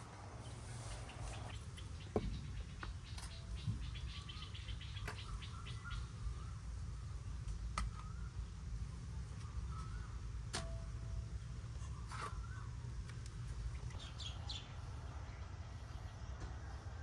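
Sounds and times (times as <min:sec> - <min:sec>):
birds chirping: 0:00.0 - 0:10.5, 0:11.2 - 0:16.4.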